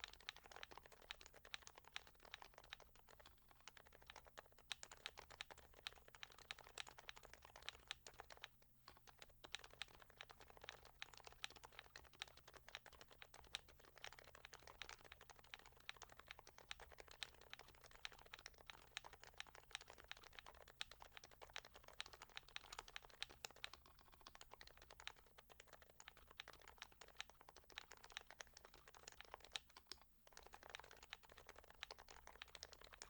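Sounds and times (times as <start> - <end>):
soft keyboard typing: 0.0 - 33.0.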